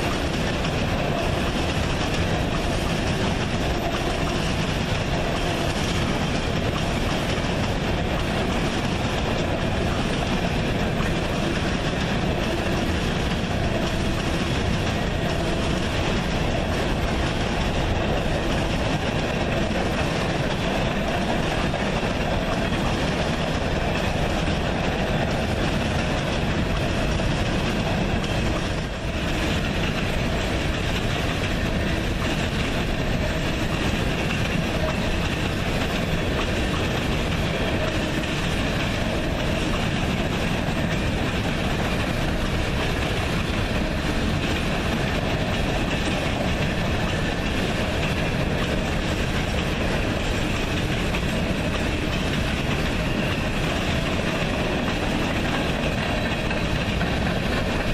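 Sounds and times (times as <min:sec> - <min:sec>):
railroad cars rolling past: 0:00.0 - 0:57.9.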